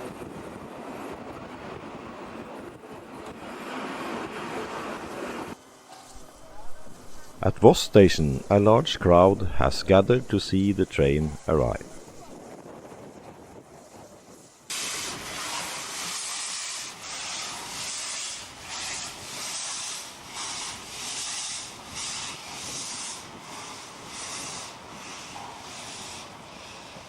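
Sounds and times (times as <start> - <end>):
steam locomotive puffing steam: 5.3 - 27.0.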